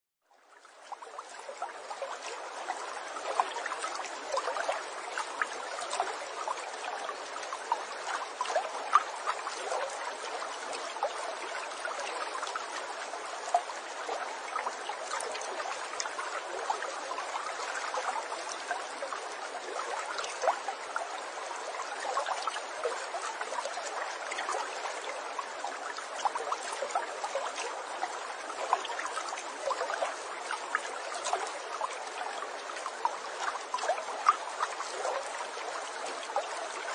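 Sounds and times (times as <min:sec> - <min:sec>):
water trickling and babbling: 0:00.2 - 0:36.9
small water splashes: 0:00.3 - 0:36.9.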